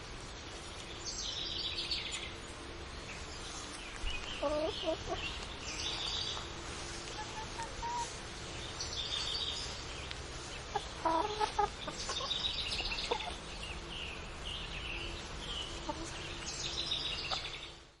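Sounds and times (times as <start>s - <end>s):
chickens clucking and calling: 3.2s - 17.7s.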